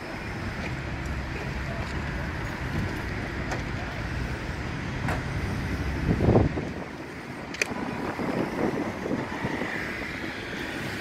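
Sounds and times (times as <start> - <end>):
road traffic passing: 0.0 - 11.0
wind buffeting microphone: 0.3 - 11.0.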